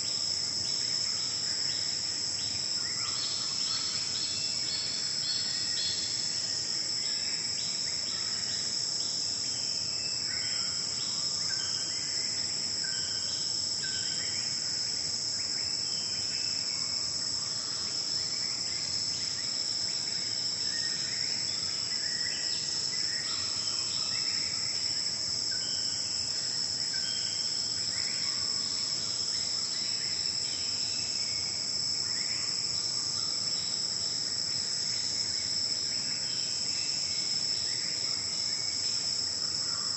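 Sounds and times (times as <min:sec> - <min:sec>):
forest insects chorus: 0:00.0 - 0:39.9.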